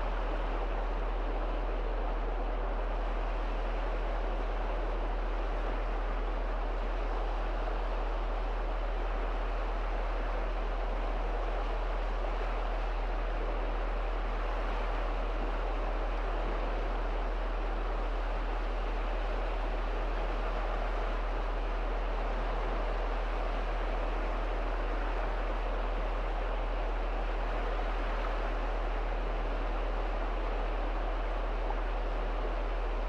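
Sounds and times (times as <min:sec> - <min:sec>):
constant low hum: 0:00.0 - 0:33.0
waves lapping on shore: 0:00.0 - 0:33.0.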